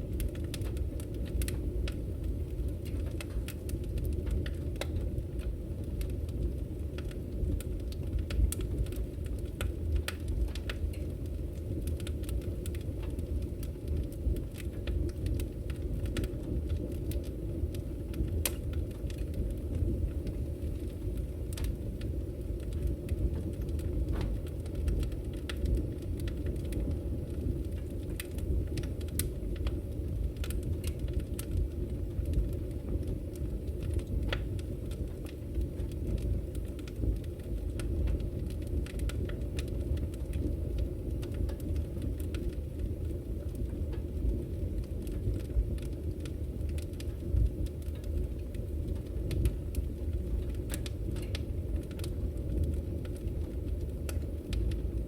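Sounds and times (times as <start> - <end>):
fire rumbling: 0.0 - 55.0
firewood crackling and popping: 0.0 - 55.0.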